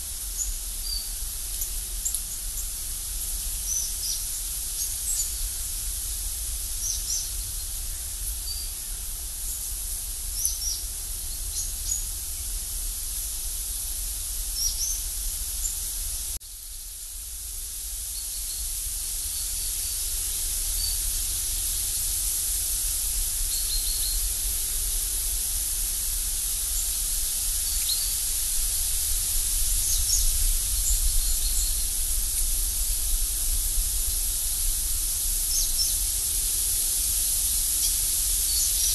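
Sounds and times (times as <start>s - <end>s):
steady high hiss: 0.0s - 38.9s.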